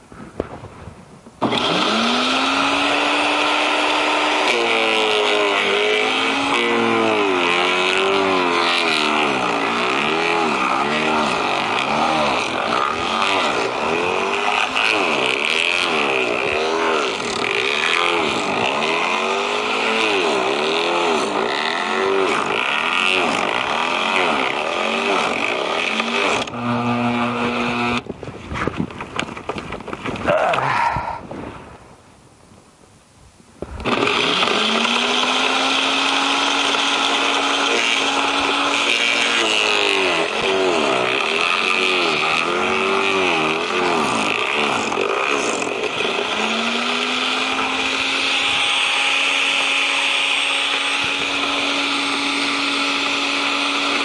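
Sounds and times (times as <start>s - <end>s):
branch shredder running: 1.4s - 28.1s, 33.6s - 54.0s.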